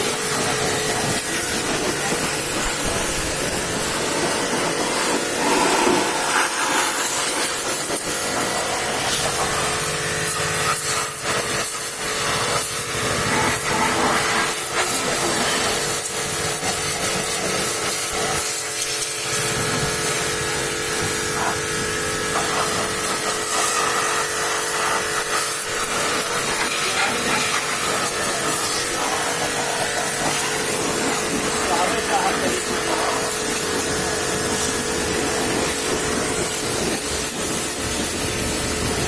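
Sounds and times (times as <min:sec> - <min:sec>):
pressure washer motor: 0:00.0 - 0:39.0
water spray hiss: 0:00.0 - 0:39.0.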